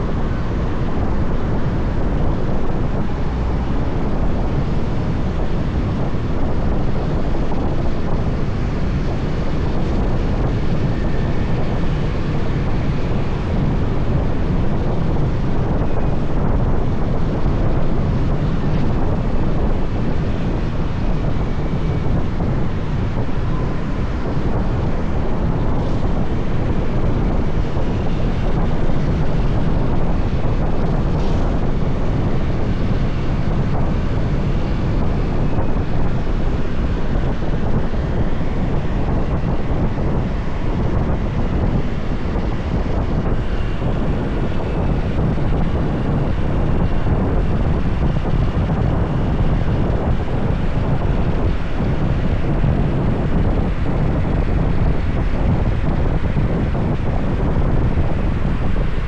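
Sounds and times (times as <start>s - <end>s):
road noise: 0.0s - 59.0s
wind rush over microphone: 0.0s - 59.0s.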